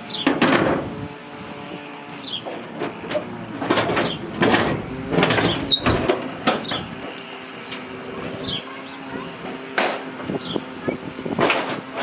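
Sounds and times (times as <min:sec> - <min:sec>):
heavy items scraping and knocking: 0:00.2 - 0:12.0.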